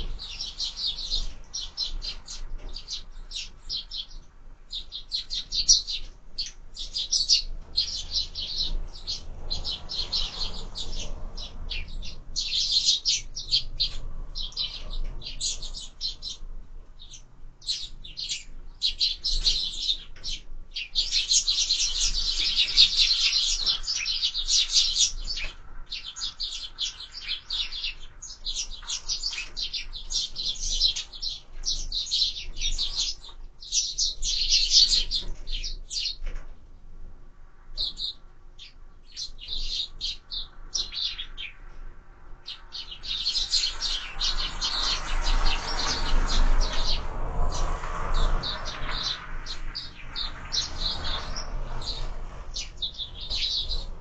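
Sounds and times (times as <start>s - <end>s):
sparrows chirping: 0.0s - 54.0s.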